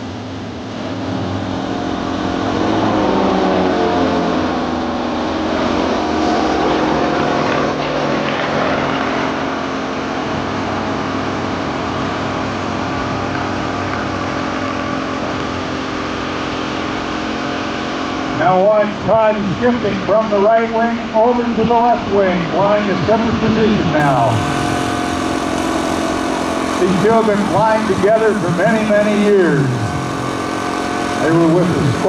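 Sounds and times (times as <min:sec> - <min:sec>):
propeller aircraft flying overhead: 0:00.0 - 0:18.4, 0:23.8 - 0:32.0.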